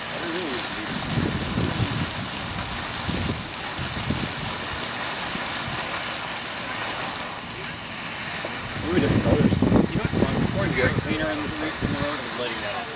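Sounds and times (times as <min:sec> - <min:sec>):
firework fountain hissing: 0:00.0 - 0:12.9.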